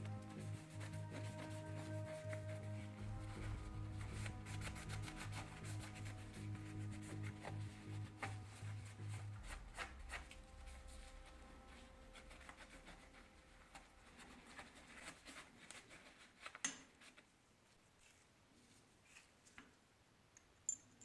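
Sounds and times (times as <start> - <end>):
faint rubbing: 0.0 - 17.3.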